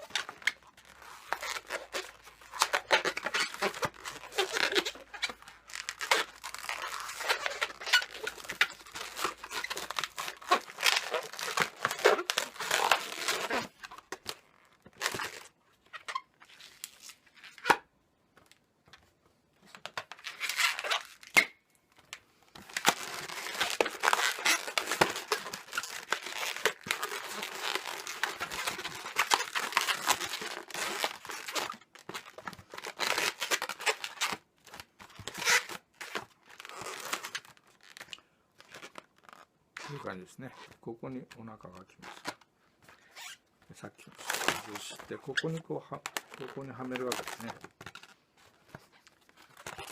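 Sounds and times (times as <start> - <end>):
balloons rubbing and crinkling: 0.0 - 17.6, 19.6 - 21.4, 22.4 - 49.9.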